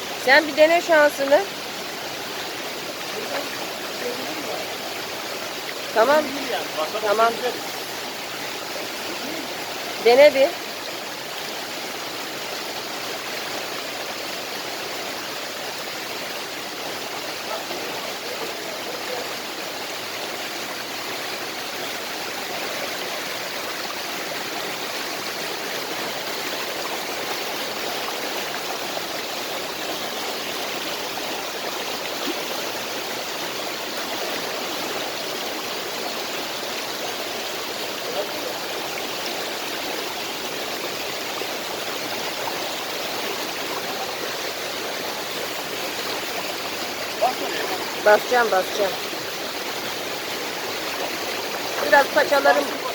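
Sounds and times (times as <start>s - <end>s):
creek water rushing: 0.0s - 52.9s.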